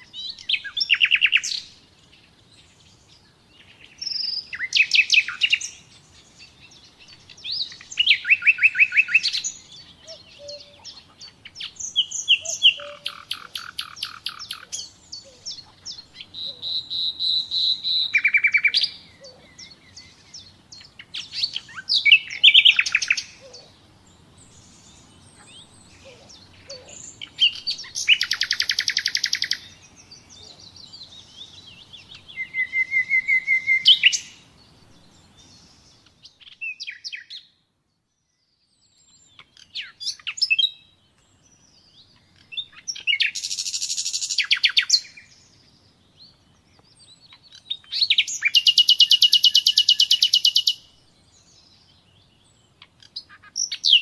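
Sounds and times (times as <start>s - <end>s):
nightingale singing trills: 0.0s - 54.0s.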